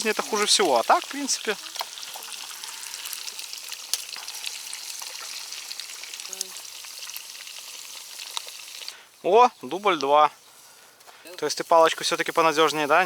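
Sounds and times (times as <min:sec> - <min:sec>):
campfire crackling and popping: 0:00.0 - 0:13.0
hissing sizzle: 0:00.0 - 0:13.0.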